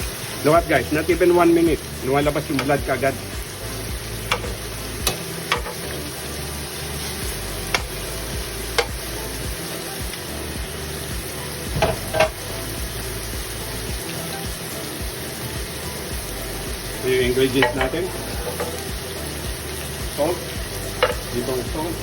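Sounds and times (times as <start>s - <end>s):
liver sizzling in hot oil: 0.0s - 22.0s
sharp clicks of frying: 0.0s - 22.0s.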